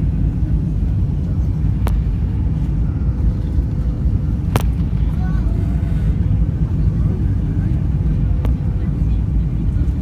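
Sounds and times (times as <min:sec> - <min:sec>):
jet engines and rushing air: 0:00.0 - 0:10.0.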